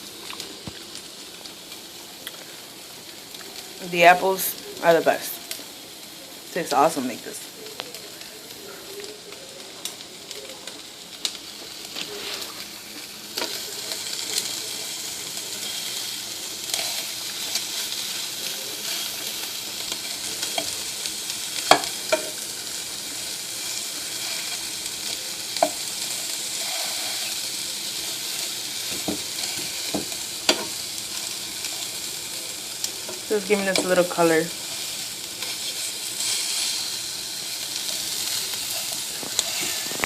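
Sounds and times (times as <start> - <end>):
chicken sizzling in a pan: 0.0 - 40.0.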